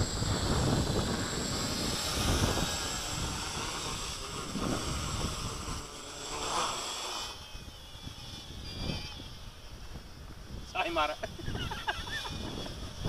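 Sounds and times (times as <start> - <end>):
model aircraft motor whine: 0.0 - 13.0
wind rumbling on microphone: 0.0 - 13.0.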